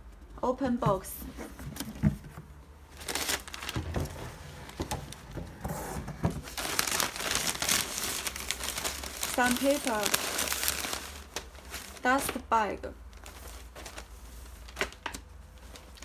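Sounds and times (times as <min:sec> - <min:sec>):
tissue paper rustling: 0:02.9 - 0:16.0.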